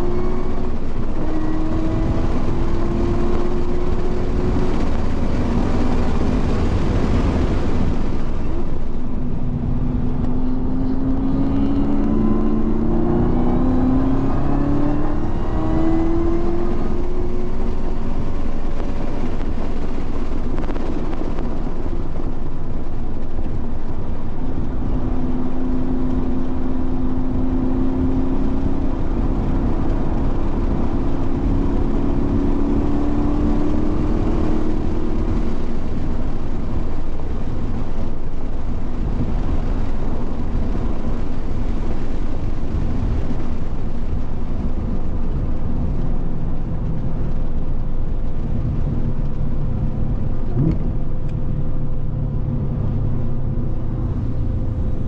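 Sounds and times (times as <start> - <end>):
car engine accelerating hard: 0.0 - 55.0
wind and road noise: 0.0 - 55.0.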